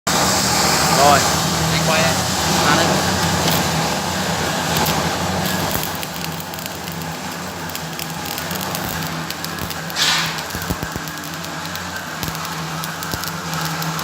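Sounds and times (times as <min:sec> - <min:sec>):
welding arc crackling: 0:00.1 - 0:14.0.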